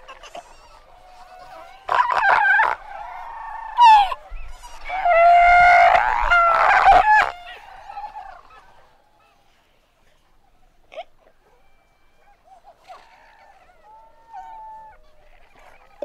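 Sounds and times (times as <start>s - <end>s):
fur seals calling: 0.0s - 16.0s.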